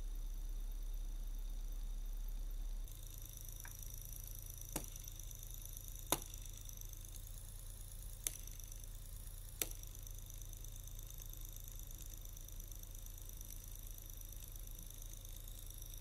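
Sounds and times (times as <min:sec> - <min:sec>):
small electric motor whining: 0:02.8 - 0:16.0
sharp clicks: 0:02.9 - 0:16.0.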